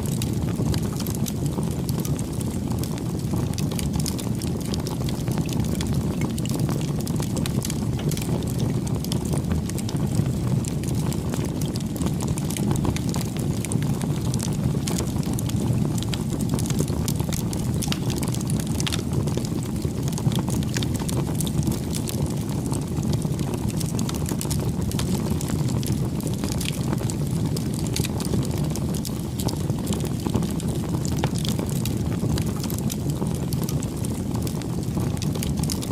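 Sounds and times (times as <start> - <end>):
campfire flames rushing: 0.0 - 35.9
fire crackling and popping: 0.0 - 35.9.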